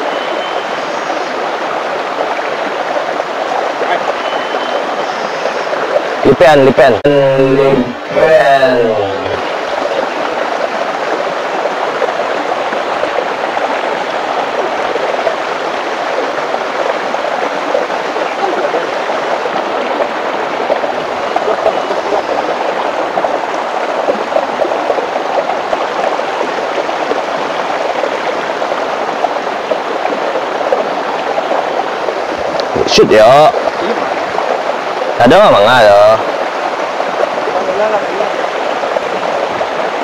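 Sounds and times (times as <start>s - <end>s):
water rushing over stones: 0.0s - 40.0s.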